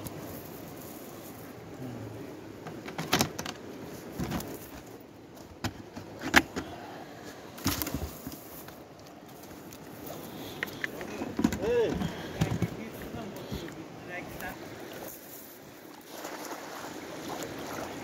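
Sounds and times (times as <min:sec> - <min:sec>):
steady hiss: 0:00.0 - 0:05.4, 0:06.2 - 0:16.0.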